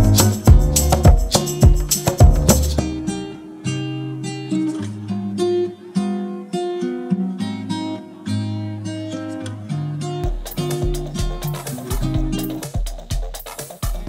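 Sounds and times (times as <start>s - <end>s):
acoustic guitar picking and strumming: 0.0s - 14.0s.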